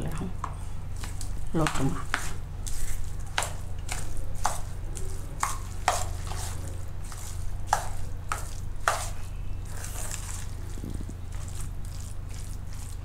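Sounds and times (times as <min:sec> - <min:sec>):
low steady hum: 0:00.0 - 0:13.0
spoon stirring batter: 0:00.3 - 0:13.0.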